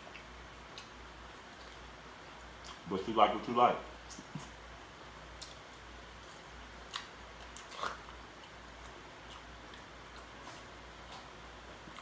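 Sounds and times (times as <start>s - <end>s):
faint chewing and mouth clicks: 0.0s - 2.9s, 4.0s - 4.6s, 5.3s - 12.0s
low steady hum: 0.0s - 12.0s.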